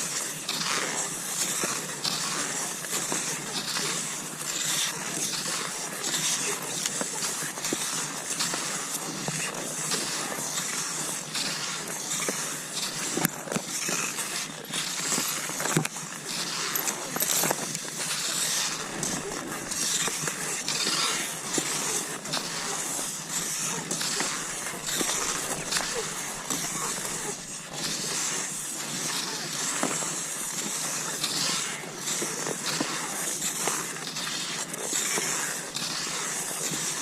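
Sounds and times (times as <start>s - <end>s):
skis swishing over snow: 0.0s - 37.0s
sharp clicks of poles: 0.1s - 37.0s.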